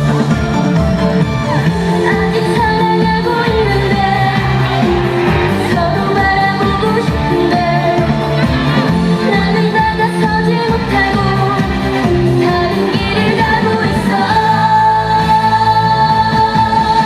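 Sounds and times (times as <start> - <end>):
amplified backing music: 0.0 - 17.0
woman singing: 1.7 - 17.0.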